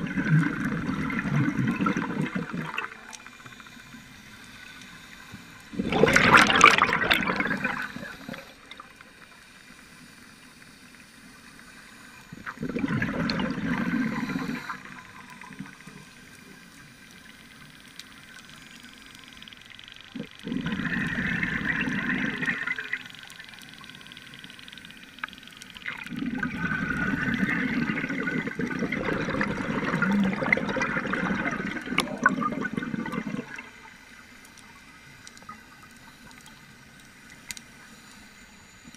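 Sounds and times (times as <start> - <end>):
scuba regulator bubbles: 0.0 - 9.3, 12.2 - 18.4, 20.1 - 36.6.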